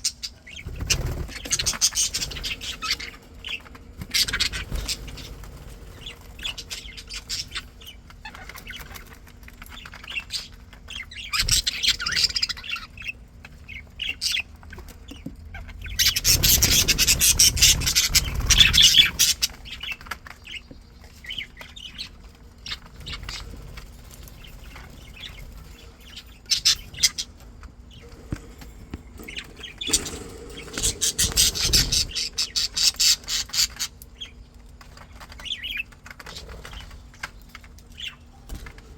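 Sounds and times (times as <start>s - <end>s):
budgerigars chirping: 0.0s - 28.2s, 29.2s - 34.4s.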